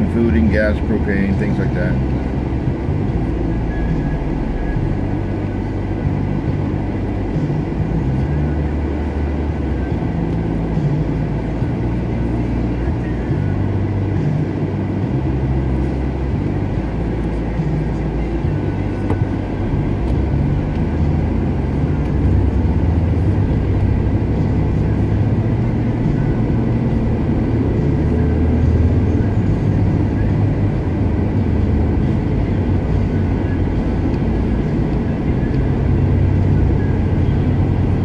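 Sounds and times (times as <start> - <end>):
engine and road rumble in cabin: 0.0 - 38.0.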